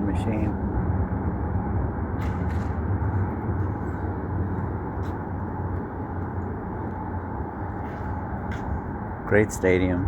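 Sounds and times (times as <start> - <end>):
distant traffic rumble: 0.0 - 10.0.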